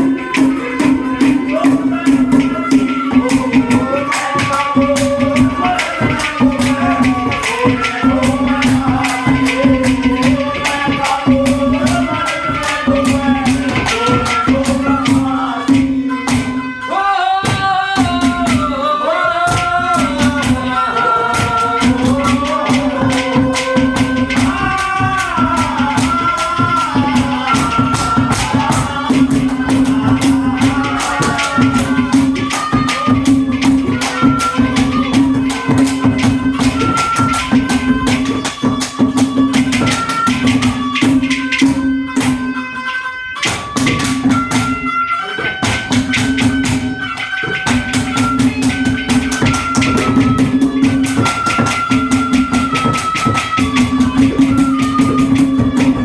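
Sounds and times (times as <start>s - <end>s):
folk music with jingling percussion: 0.0s - 56.0s.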